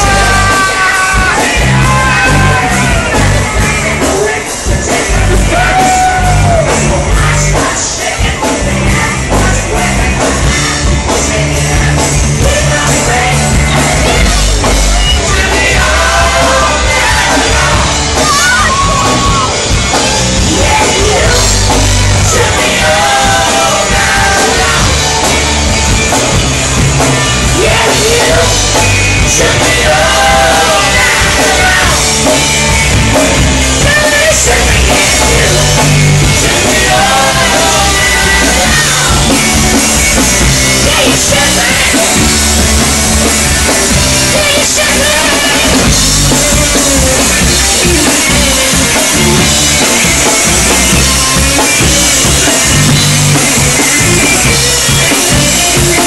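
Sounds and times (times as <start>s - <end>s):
person singing: 0.0s - 25.5s, 26.9s - 32.4s, 33.1s - 42.8s, 43.6s - 56.0s
drum kit: 0.0s - 56.0s
electric guitars: 0.0s - 56.0s.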